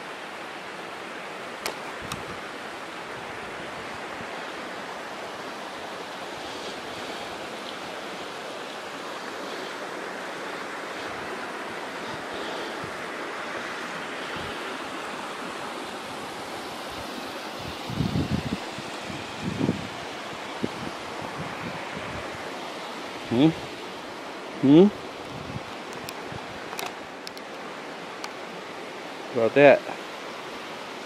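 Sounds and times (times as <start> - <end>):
creek flowing over rocks: 0.0 - 31.0.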